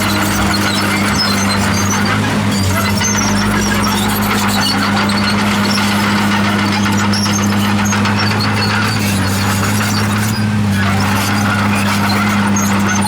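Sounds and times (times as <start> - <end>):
bulldozer engine running: 0.0 - 13.0
short high squeaks: 0.0 - 13.0.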